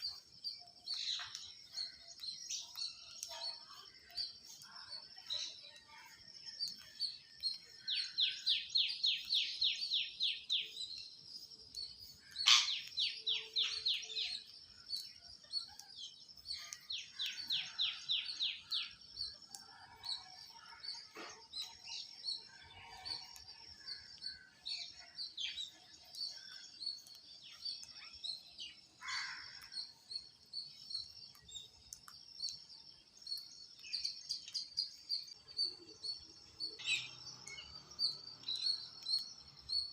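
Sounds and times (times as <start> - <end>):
high-pitched bird chirping: 0.0 - 39.9.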